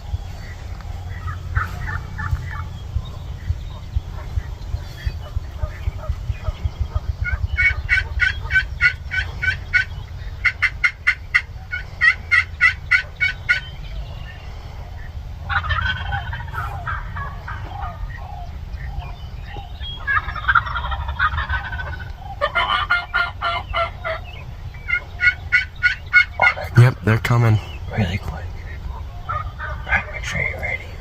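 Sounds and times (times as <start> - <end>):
turkey rattling gobble: 0.0 - 14.0, 15.4 - 30.9
turkey yelps: 0.4 - 14.0, 15.5 - 26.8, 27.9 - 30.8.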